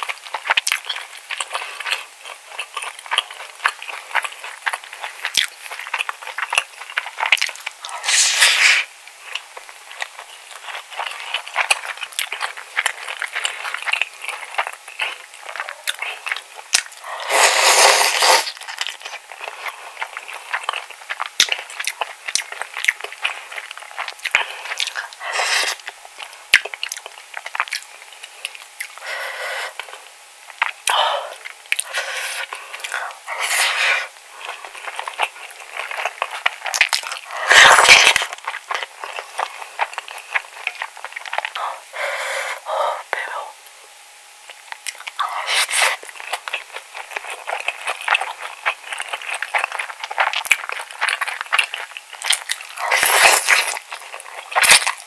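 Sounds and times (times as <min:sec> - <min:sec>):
wet crackly chewing: 0:00.0 - 0:43.8, 0:44.4 - 0:55.0.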